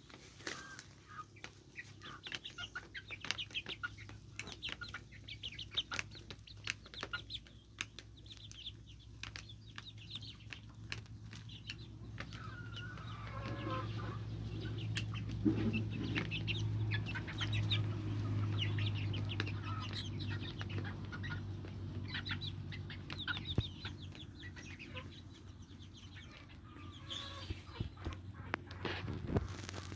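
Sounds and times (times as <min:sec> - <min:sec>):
chicks clucking and peeping: 0:00.0 - 0:29.9
beaks pecking: 0:00.5 - 0:25.0.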